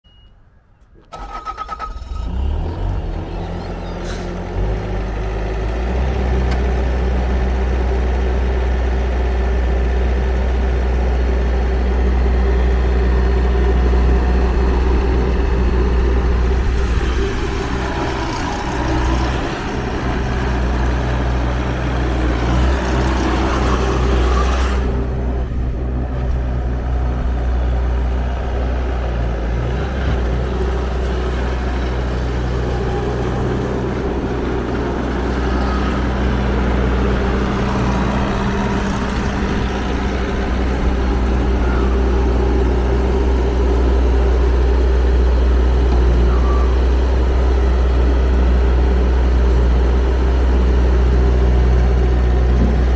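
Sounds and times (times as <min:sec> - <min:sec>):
diesel engine running: 0:01.0 - 0:52.9.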